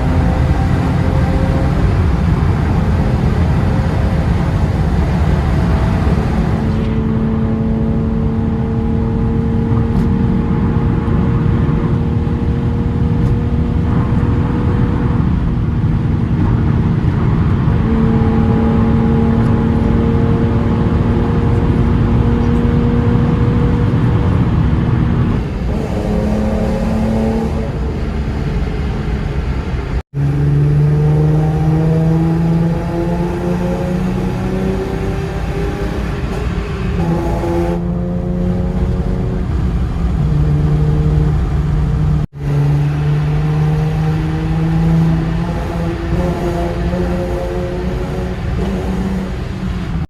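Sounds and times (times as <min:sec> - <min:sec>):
car exhaust drone accelerating: 0:00.0 - 0:50.0.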